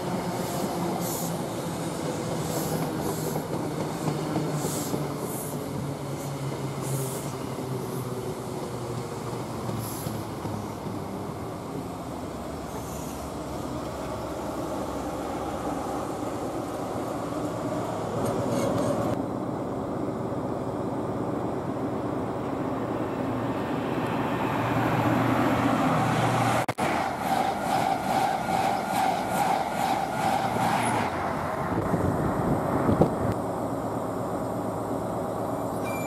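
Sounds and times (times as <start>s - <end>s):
train wheels rumbling on rails: 0.0s - 19.2s, 21.2s - 35.9s.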